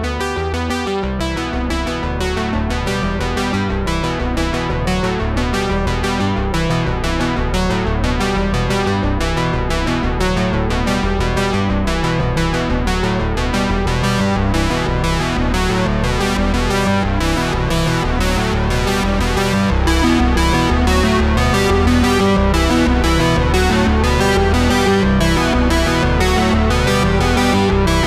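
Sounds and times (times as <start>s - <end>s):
synthesizer and electric piano music: 0.0s - 28.0s.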